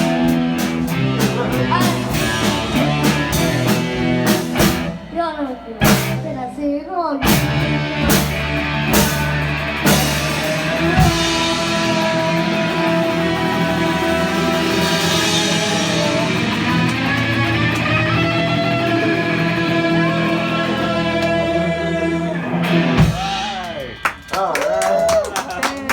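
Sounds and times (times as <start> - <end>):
person singing: 0.0 - 7.4, 9.8 - 23.9
rock music: 0.0 - 25.9.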